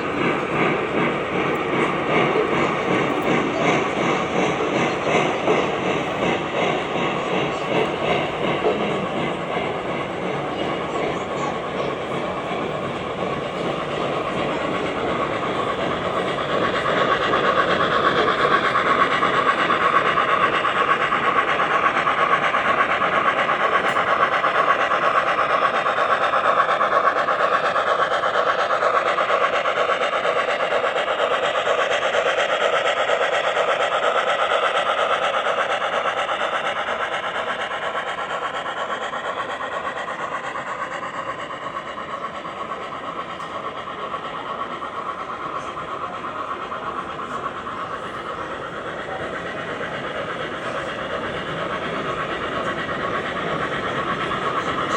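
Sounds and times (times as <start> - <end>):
model train wheels and motor rattling: 0.0 - 54.9.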